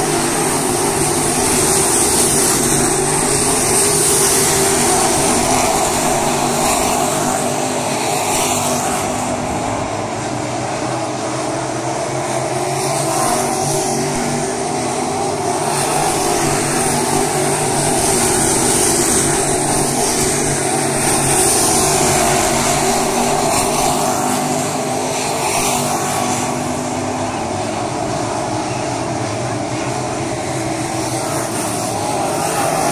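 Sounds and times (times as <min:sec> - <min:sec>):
race car engines droning: 0:00.0 - 0:32.9.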